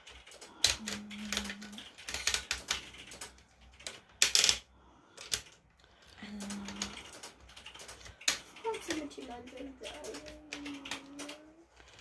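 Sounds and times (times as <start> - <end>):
plastic levers clicking and clattering: 0.0 - 12.0.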